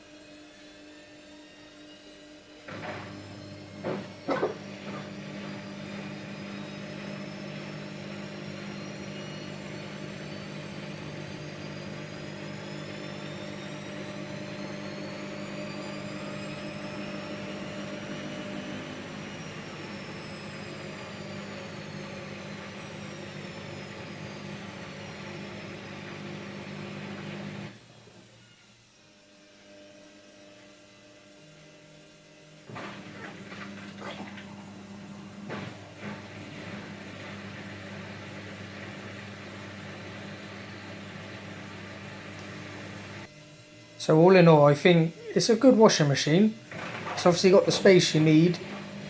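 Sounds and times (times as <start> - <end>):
washing machine spinning: 2.6 - 28.2, 32.7 - 43.3, 45.3 - 49.0.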